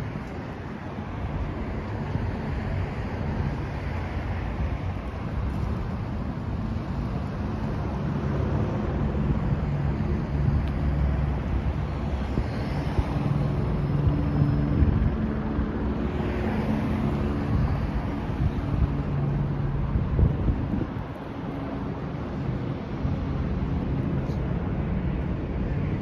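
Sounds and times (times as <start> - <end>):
rumble of cars driving: 0.0 - 26.0.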